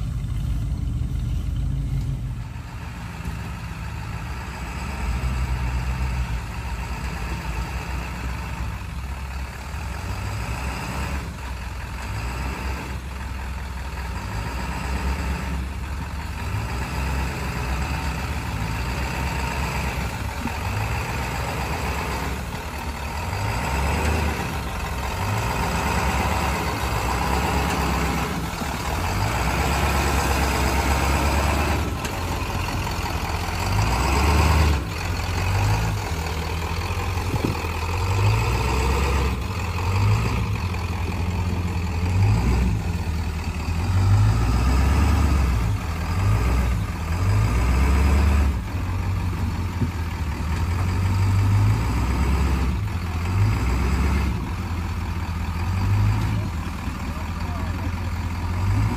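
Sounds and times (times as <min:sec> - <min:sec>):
engine running at low speed: 0:00.0 - 0:58.9.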